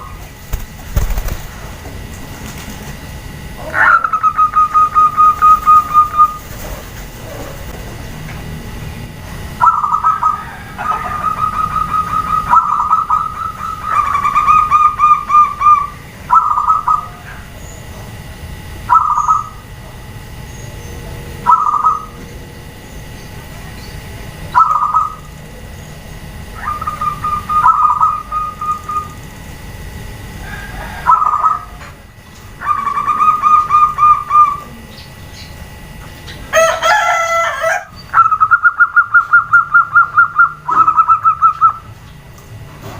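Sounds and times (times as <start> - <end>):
doves cooing and trilling: 0.0 - 42.2.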